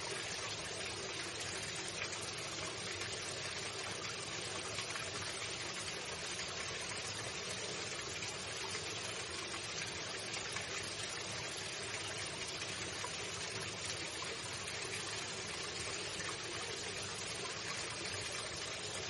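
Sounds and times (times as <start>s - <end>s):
running water flowing: 0.0s - 19.0s.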